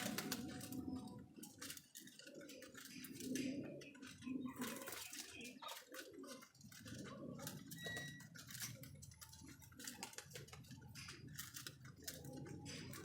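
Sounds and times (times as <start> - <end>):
pigeons pecking at grain: 0.0 - 13.0.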